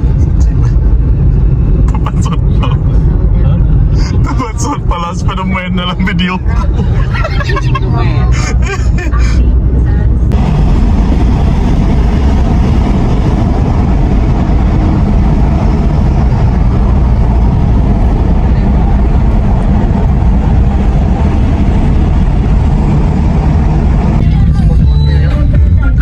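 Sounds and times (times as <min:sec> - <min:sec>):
engine running with rushing rumble: 0:00.0 - 0:26.0.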